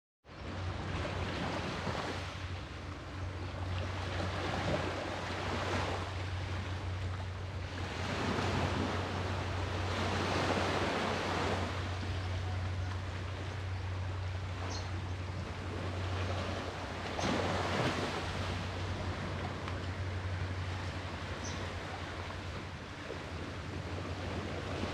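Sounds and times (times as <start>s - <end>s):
low hum: 0.3s - 24.9s
sea waves breaking: 0.4s - 24.9s.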